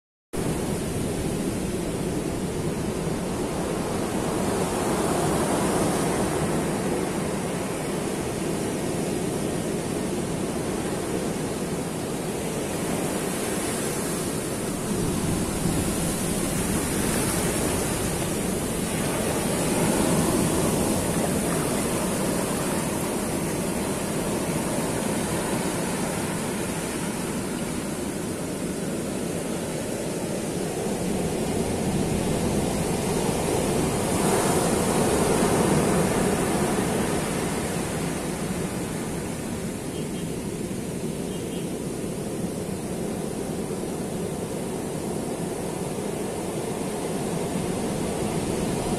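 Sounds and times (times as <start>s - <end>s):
ocean surf breaking on beach: 0.4s - 48.9s.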